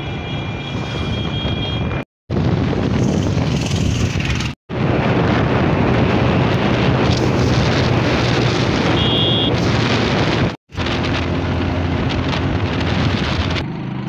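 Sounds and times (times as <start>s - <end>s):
motorcycle engine drone: 0.0s - 14.0s
wind rushing over microphone: 0.7s - 13.7s.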